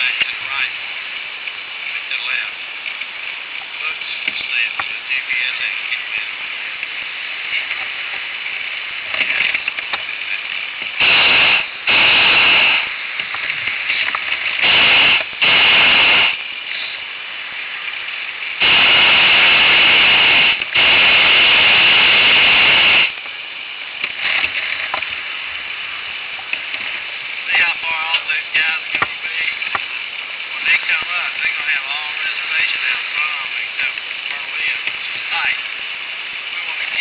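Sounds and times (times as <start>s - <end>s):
propane burner roaring: 0.0s - 37.0s
steady hiss with faint crackle: 0.0s - 37.0s.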